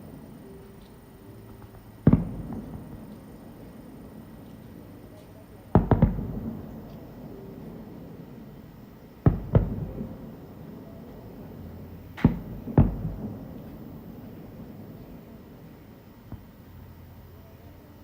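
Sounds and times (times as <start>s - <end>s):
firework shells booming: 0.0s - 17.4s.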